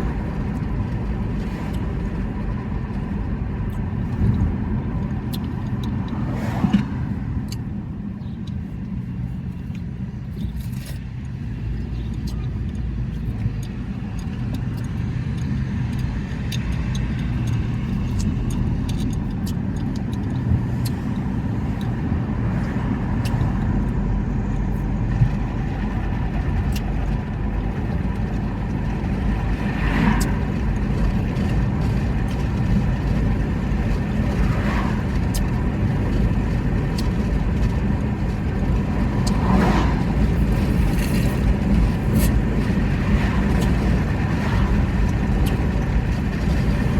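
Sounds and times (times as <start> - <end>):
steady low rumble: 0.0 - 46.9.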